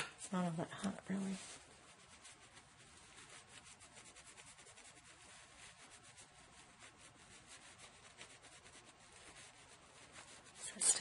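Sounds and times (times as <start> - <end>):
cloth rubbing on glass: 0.2 - 11.0.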